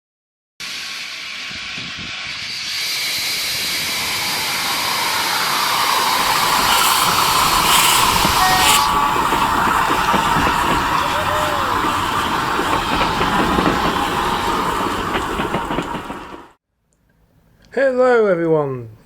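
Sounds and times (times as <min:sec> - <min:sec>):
steam locomotive hissing: 0:00.6 - 0:16.6.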